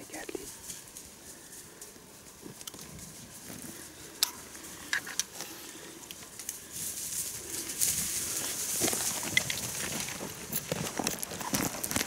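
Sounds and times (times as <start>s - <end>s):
rustling through dry leaves: 0.0s - 12.0s.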